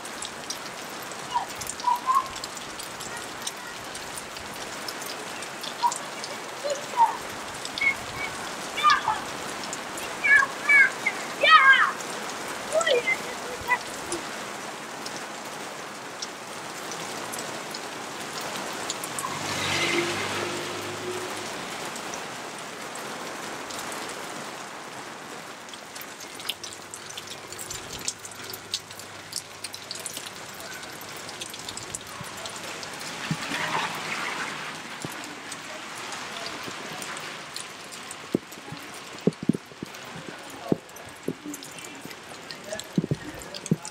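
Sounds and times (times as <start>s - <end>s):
heavy rain hissing: 0.0s - 43.9s
raindrops splattering on hard surfaces: 0.0s - 43.9s
vehicle passing on wet street: 0.0s - 43.9s.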